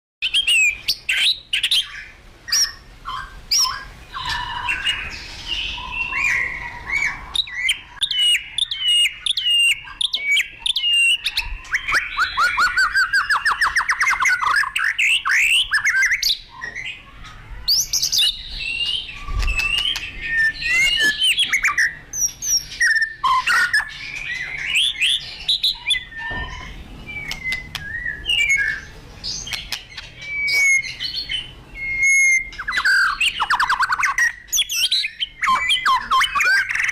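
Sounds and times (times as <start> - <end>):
bird trill: 0.2 - 36.9
songbird singing: 0.2 - 36.9.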